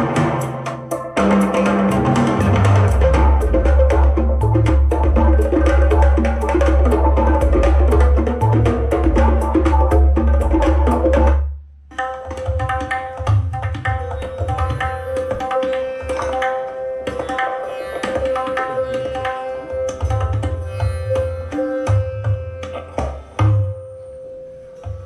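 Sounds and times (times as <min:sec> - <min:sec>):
percussive music through speaker: 0:00.0 - 0:24.2.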